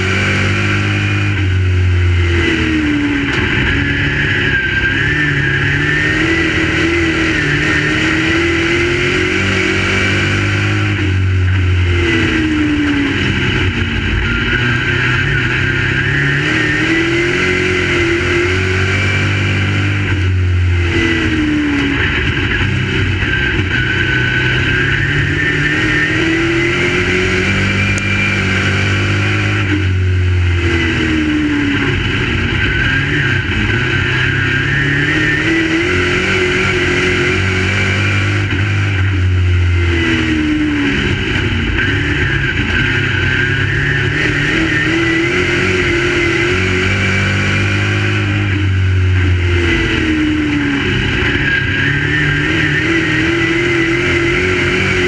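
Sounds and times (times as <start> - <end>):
race car engine at speed: 0.0 - 55.0.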